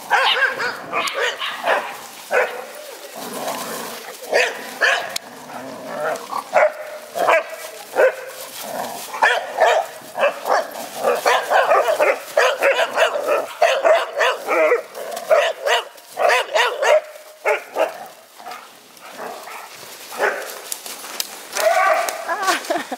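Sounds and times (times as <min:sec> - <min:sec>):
dogs barking and yipping: 0:00.0 - 0:20.9, 0:21.5 - 0:22.4.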